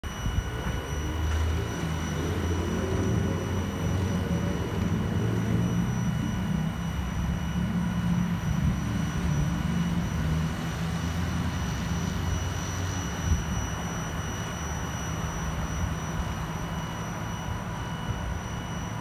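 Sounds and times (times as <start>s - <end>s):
jet engines rumbling overhead: 0.0s - 19.0s.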